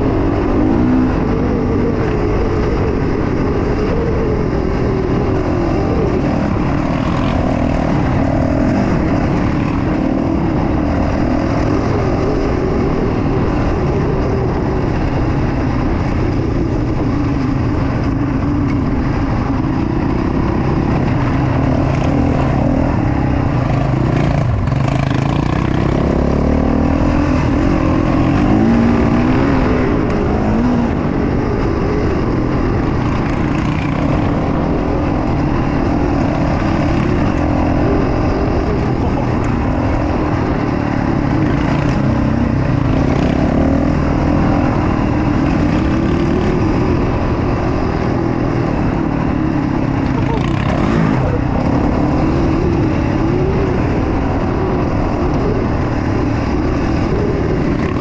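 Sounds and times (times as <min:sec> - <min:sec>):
quad bike engine: 0:00.0 - 0:58.0.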